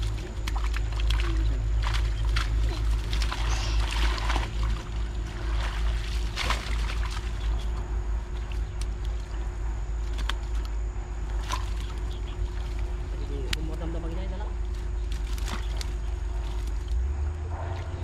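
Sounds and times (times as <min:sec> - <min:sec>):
steady low rumble: 0:00.0 - 0:18.0
water sloshing: 0:00.0 - 0:18.0.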